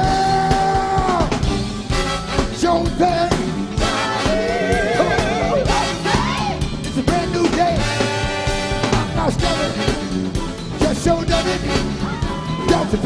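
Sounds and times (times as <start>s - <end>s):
live funk band playing: 0.0s - 13.0s.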